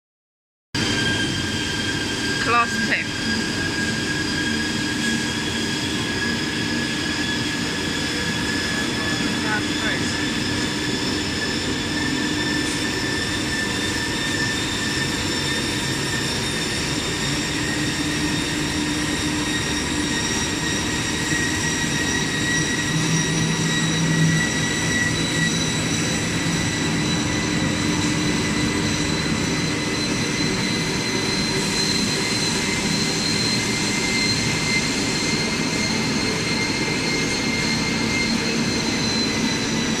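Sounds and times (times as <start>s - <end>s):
machine high whine: 0.8s - 40.0s.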